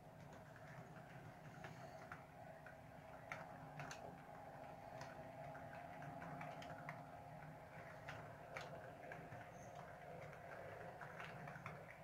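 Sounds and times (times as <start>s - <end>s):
wheels clicking over track: 0.0s - 12.0s.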